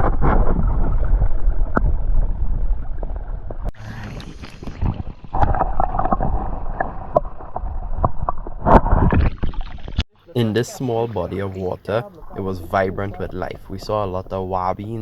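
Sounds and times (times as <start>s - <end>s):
water splashing and sloshing: 0.0s - 14.7s.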